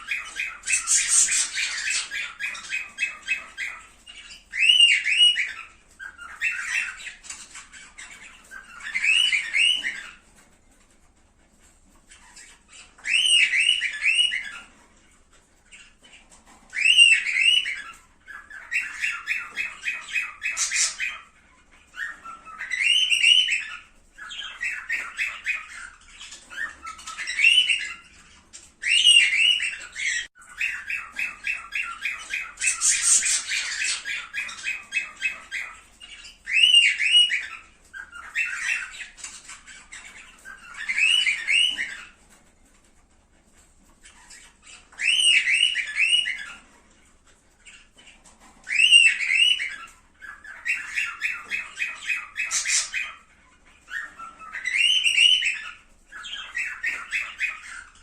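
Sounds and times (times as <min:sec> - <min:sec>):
cockatiels squawking: 0:00.0 - 0:58.0.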